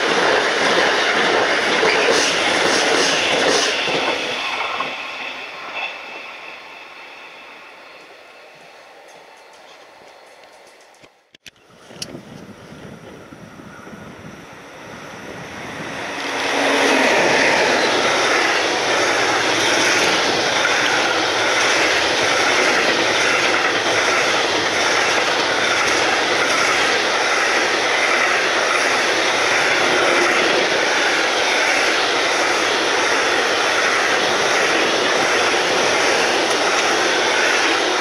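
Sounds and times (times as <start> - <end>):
train wheels rushing on rails: 0.0 - 11.2, 12.5 - 38.0.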